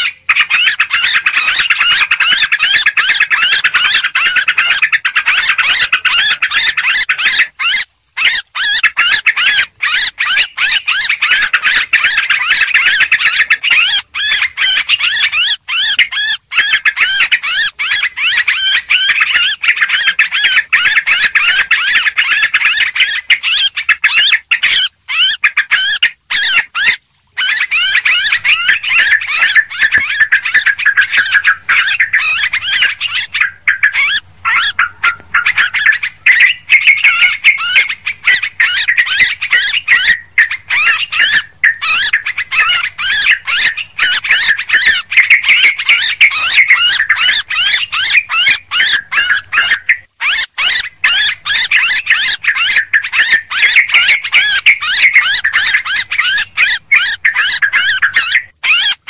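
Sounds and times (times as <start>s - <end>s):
birds chattering calls: 0.0s - 59.0s.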